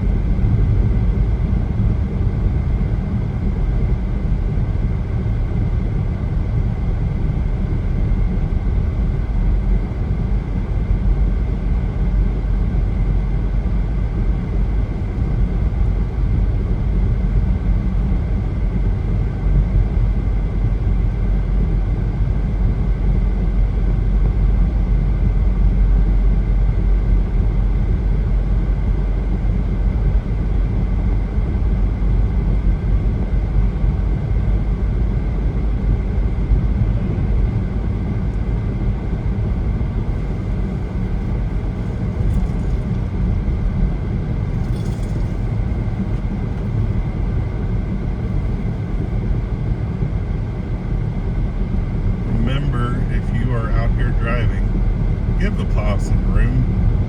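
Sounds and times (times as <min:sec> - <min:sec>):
car road noise on highway: 0:00.0 - 0:57.0.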